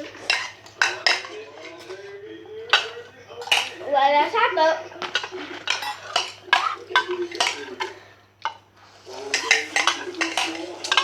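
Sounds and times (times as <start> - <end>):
cutlery clinking against bowls: 0.0 - 11.0.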